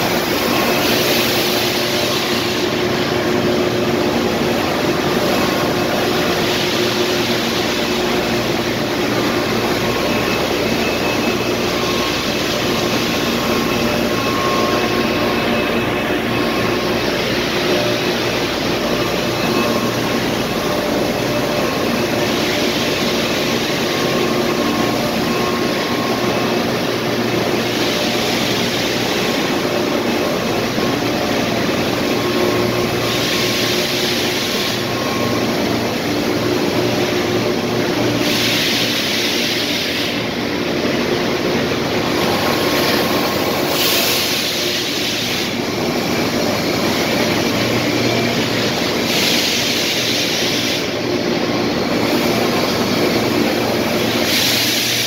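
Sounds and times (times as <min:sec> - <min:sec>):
machine drone of motors: 0:00.0 - 0:55.0.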